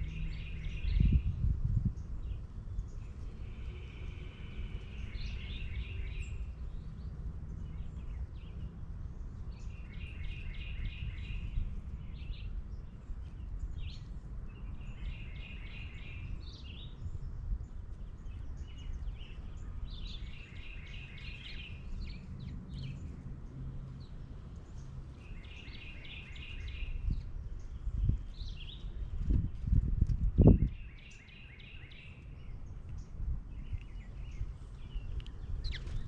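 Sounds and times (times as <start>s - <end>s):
songbird singing: 0.0s - 36.0s.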